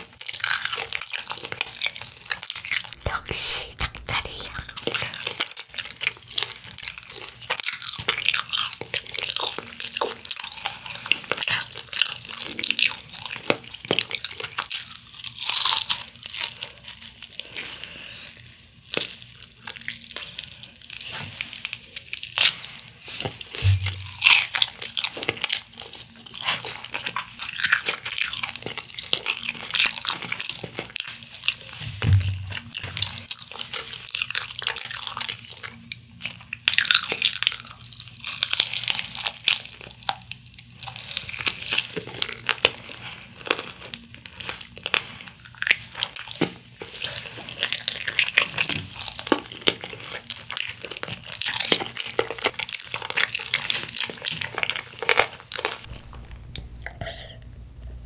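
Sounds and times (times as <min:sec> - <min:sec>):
crunchy chewing of fried chicken: 0:00.0 - 0:56.4.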